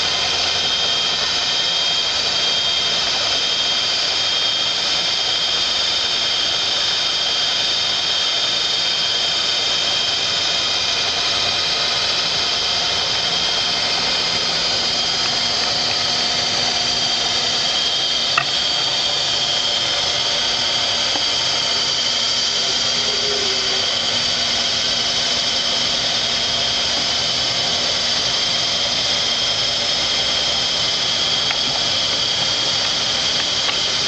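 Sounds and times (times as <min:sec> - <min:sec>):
machine hiss: 0:00.0 - 0:34.0
milling machine whine: 0:00.0 - 0:34.0.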